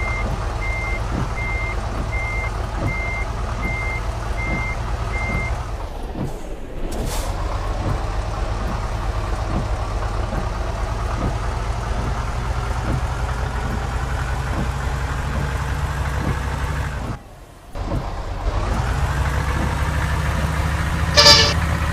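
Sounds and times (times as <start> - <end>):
bus diesel engine pulling away: 0.0 - 21.9.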